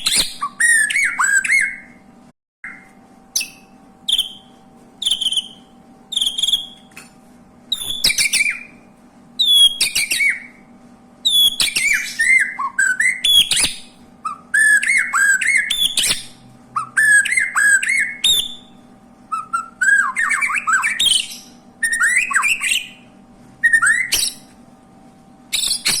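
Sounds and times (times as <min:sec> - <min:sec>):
canary singing trills: 0:00.0 - 0:02.0, 0:02.6 - 0:06.9, 0:07.7 - 0:08.8, 0:09.4 - 0:24.5, 0:25.5 - 0:26.0.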